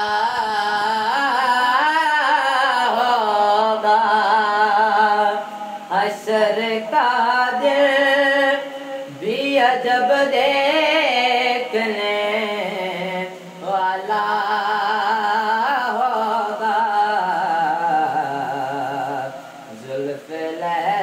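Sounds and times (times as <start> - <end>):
person singing unaccompanied: 0.0 - 21.0.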